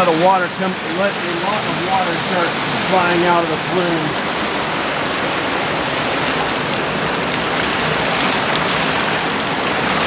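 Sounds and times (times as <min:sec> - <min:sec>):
water rushing over a dam: 0:00.0 - 0:10.0.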